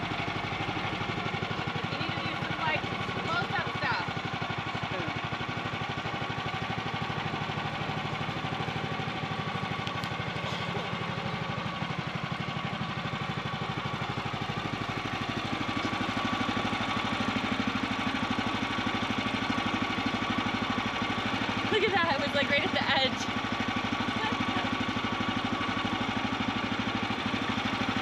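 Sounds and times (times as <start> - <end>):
gas engine throbbing: 0.0 - 28.0.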